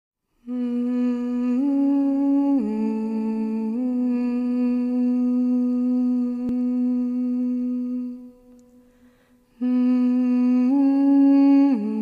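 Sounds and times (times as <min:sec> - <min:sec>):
person humming held notes: 0:00.5 - 0:09.0, 0:09.6 - 0:12.0.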